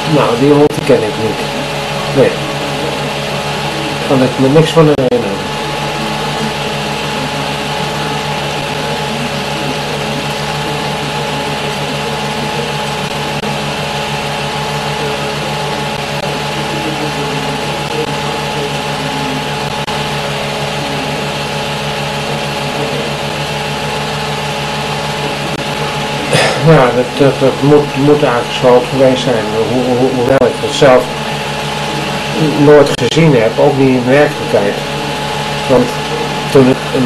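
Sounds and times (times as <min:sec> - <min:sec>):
film projector running: 0:00.0 - 0:37.0.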